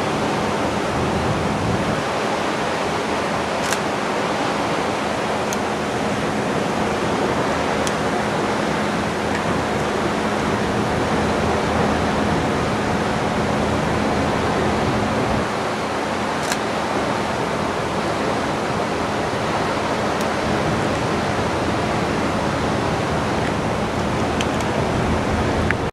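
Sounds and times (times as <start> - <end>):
low ship hum: 0.0 - 25.9
wind and water rushing: 0.0 - 25.9.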